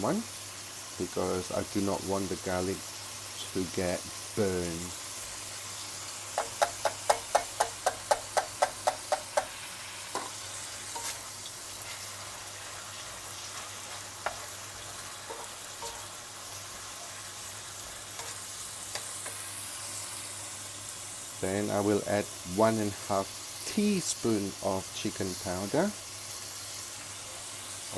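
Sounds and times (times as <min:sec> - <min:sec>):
food sizzling in a pan: 0:00.0 - 0:27.9.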